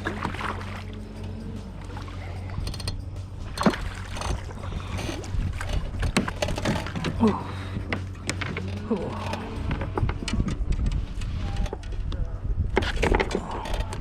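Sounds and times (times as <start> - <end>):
gear and hull knocking: 0.0 - 14.0
steady low hum: 0.0 - 14.0.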